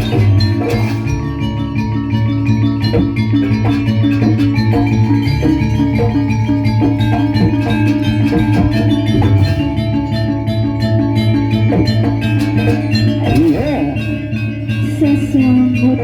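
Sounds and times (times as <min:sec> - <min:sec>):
drums: 0:00.0 - 0:15.0
low sustained tone: 0:00.0 - 0:16.0
struck metal keyed instruments: 0:00.0 - 0:16.0.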